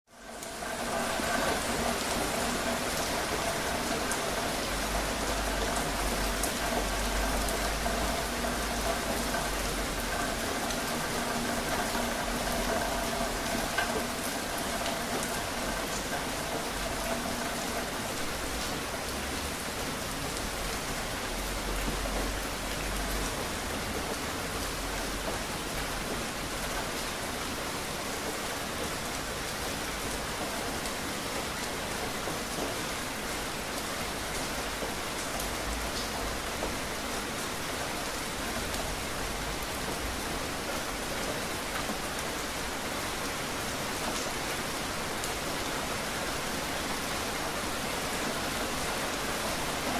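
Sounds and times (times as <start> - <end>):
steady rain falling: 0.1 - 49.9.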